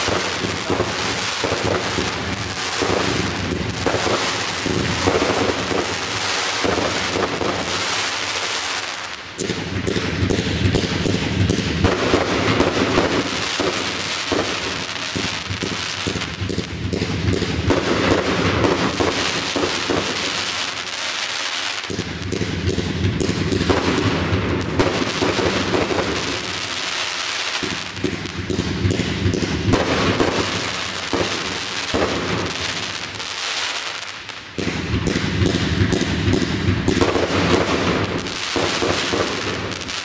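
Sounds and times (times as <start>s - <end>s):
fireworks bangs and crackle: 0.0s - 40.0s.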